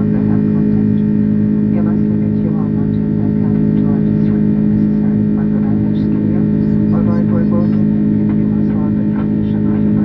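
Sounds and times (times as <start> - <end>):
airliner cabin drone: 0.0 - 10.0
faint voices: 0.0 - 10.0.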